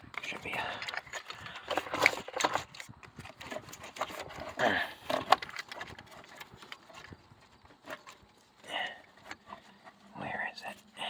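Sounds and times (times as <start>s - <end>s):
hands fumbling with car engine parts: 0.0s - 10.1s.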